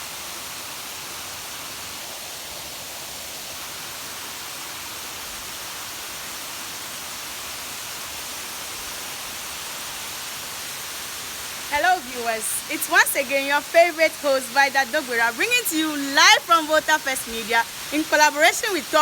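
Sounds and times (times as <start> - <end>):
waterfall: 0.0 - 19.0.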